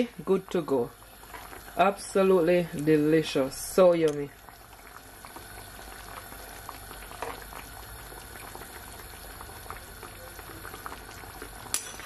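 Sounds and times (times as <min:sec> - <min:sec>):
sauce bubbling and popping: 0:00.2 - 0:12.0.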